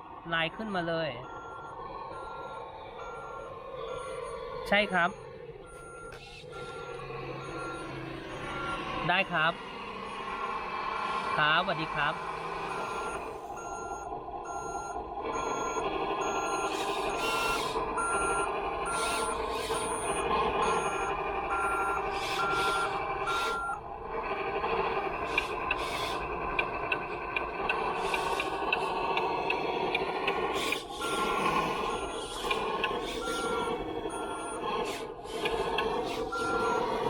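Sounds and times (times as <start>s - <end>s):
simulated truck engine running: 0.0s - 37.0s
reversing beeper: 0.3s - 23.8s, 30.8s - 37.0s.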